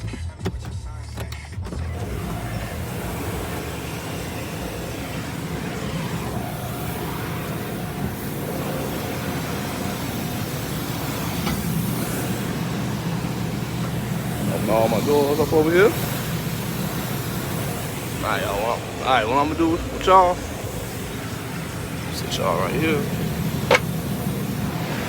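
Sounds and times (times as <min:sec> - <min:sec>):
low hum: 0:01.9 - 0:25.0
rushing air noise: 0:02.0 - 0:25.0.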